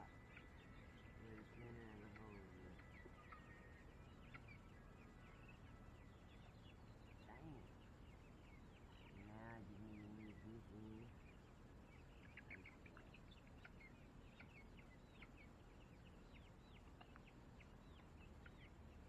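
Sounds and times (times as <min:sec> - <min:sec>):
high chirping bird calls: 0:00.0 - 0:19.0.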